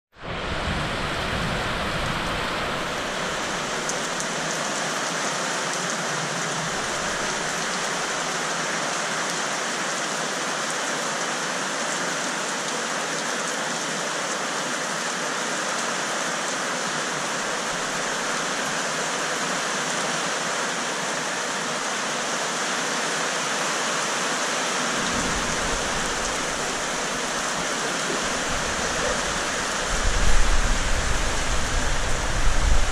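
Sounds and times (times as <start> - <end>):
heavy rain on metal roofs: 0.1 - 32.9.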